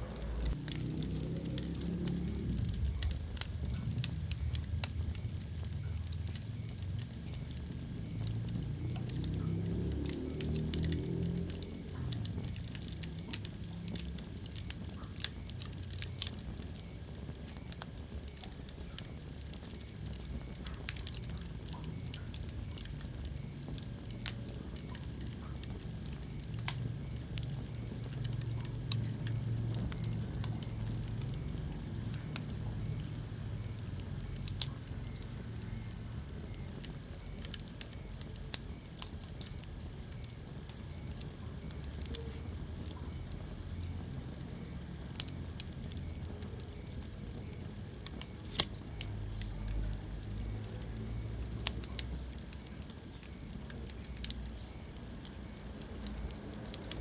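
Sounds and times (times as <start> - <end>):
fire crackling and popping: 0.0 - 57.0
fire flames rumbling: 0.0 - 57.0.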